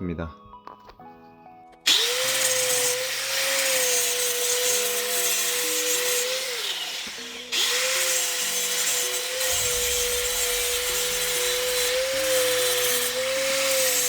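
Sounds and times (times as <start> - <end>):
grinder grinding metal: 1.9 - 14.0
grinder motor whine: 1.9 - 14.0.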